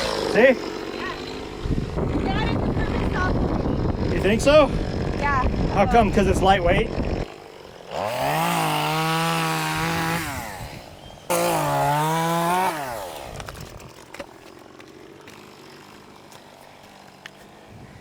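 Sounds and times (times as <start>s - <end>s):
chainsaw revving and idling: 0.0s - 18.0s.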